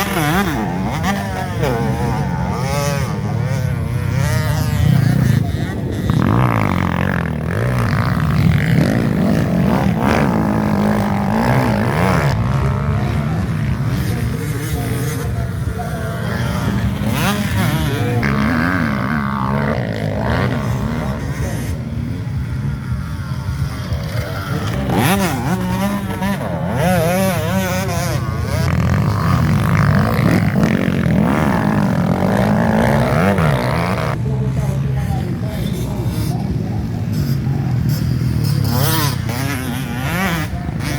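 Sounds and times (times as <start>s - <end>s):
dirt bike engines revving: 0.0s - 40.9s
drone of distant bikes: 0.0s - 40.9s.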